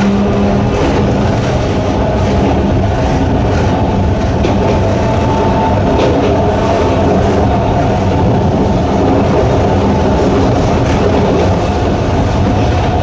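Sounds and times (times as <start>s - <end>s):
electric train motor drone: 0.0s - 13.0s
wheels on rail: 0.0s - 13.0s.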